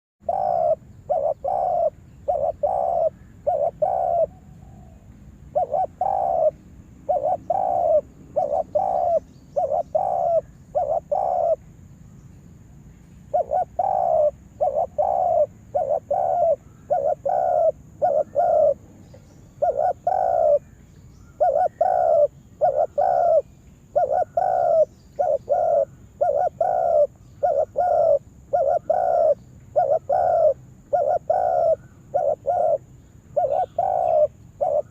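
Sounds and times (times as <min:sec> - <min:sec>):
dove cooing: 0:00.2 - 0:11.6, 0:13.3 - 0:34.9.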